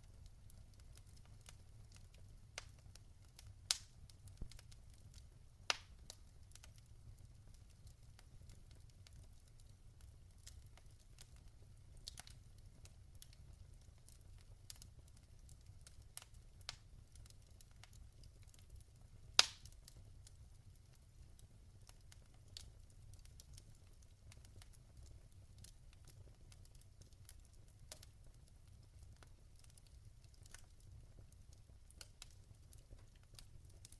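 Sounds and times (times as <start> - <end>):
burning logs crackling: 0.0 - 33.9
fire popping: 0.0 - 33.9.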